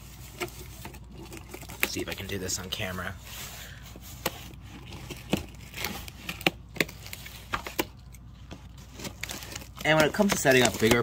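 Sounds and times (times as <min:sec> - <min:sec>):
cardboard crinkling and scraping: 0:00.0 - 0:11.0.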